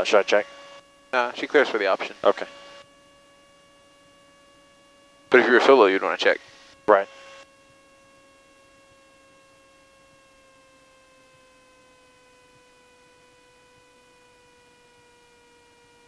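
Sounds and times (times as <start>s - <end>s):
faint electrical whine: 0.0s - 16.0s.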